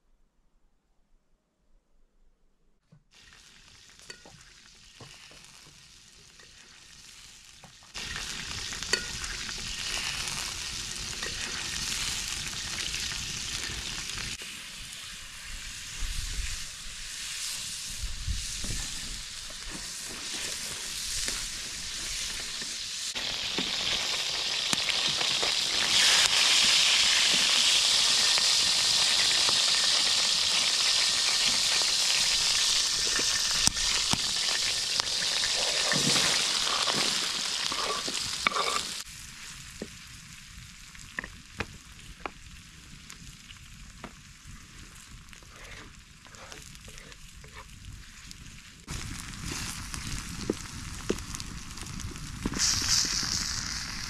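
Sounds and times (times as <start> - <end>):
food sizzling in oil: 3.2 - 54.0.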